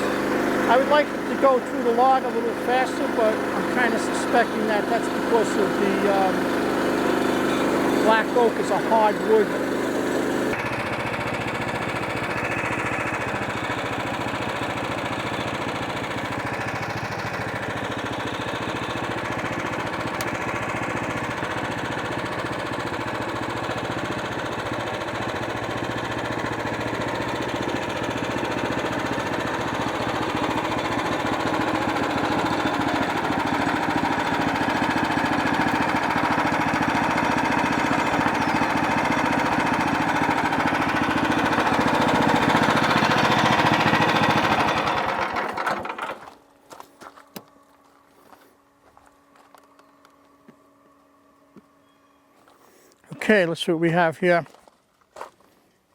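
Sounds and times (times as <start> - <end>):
sawmill cutting through log: 0.0 - 46.4.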